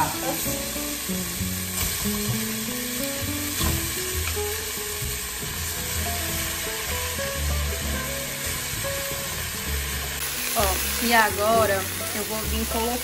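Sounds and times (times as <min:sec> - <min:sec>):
background music: 0:00.0 - 0:13.0
meat sizzling in a pot: 0:00.0 - 0:13.0.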